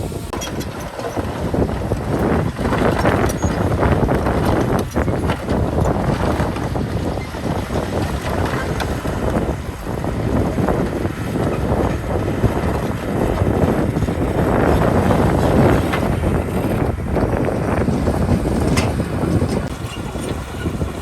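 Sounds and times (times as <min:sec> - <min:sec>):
diesel machinery rumbling: 0:00.0 - 0:21.0.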